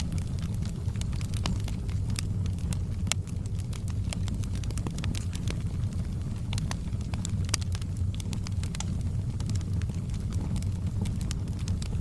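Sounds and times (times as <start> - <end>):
firewood crackling and popping: 0.0 - 12.0
low rush of flames: 0.0 - 12.0.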